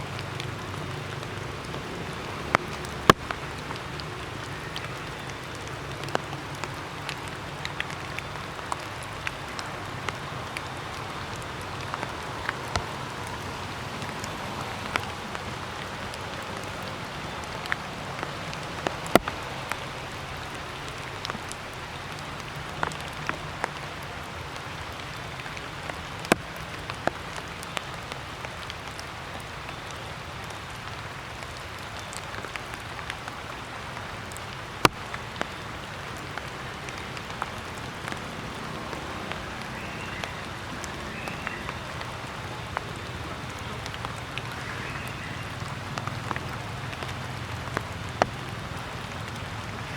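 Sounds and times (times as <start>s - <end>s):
water dripping: 0.0s - 49.9s.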